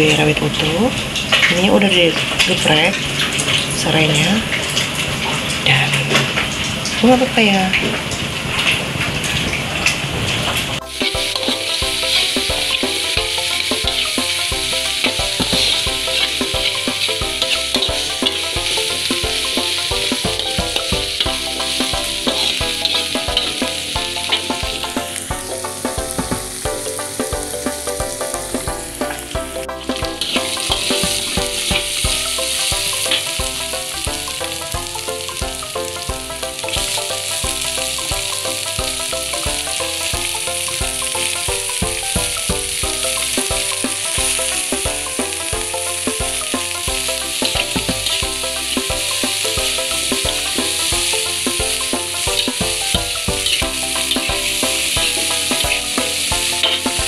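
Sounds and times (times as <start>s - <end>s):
food sizzling in a wok: 10.2s - 57.0s.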